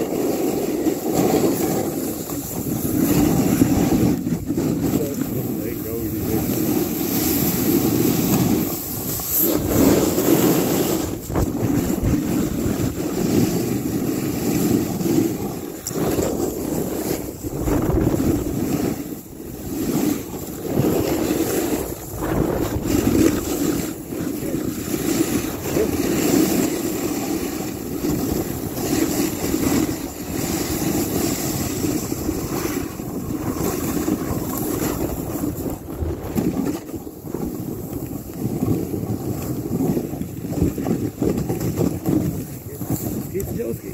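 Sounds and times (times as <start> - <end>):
snowboard scraping on snow: 0.0 - 43.9
wind buffeting microphone: 0.0 - 43.9.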